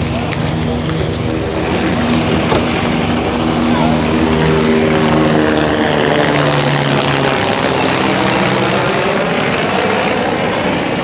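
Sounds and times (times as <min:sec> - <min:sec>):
aircraft engine drone: 0:00.0 - 0:11.0
wide rushing noise: 0:00.0 - 0:11.0.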